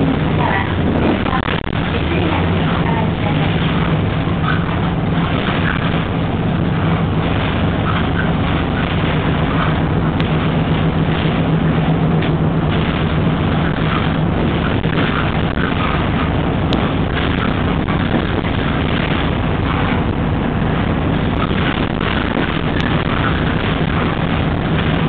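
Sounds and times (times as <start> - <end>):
bus engine hum: 0.0 - 25.0
road noise: 0.0 - 25.0.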